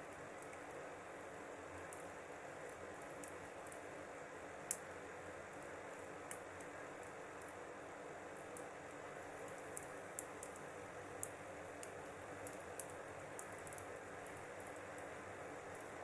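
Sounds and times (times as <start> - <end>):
fire crackles and pops: 0.0 - 16.0
wood fire hissing: 0.0 - 16.0.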